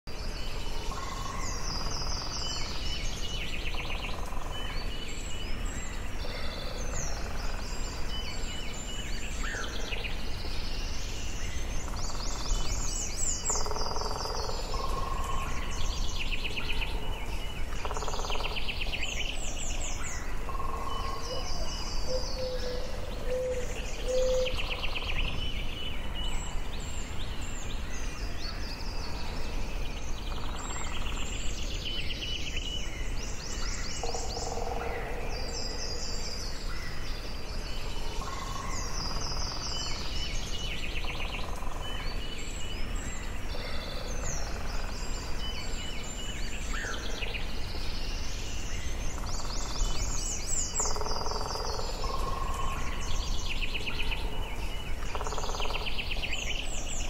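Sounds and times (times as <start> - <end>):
songbirds singing and chirping: 0.1 - 57.0
steady background hiss: 0.1 - 57.0.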